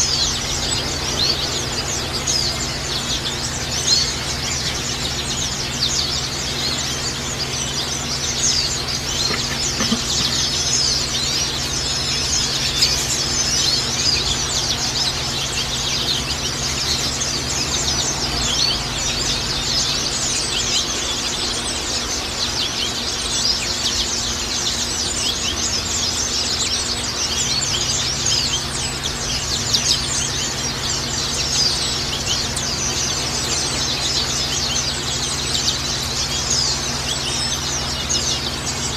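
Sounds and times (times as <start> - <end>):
birds chirping and twittering: 0.0 - 38.9
steady low hum: 0.0 - 38.9.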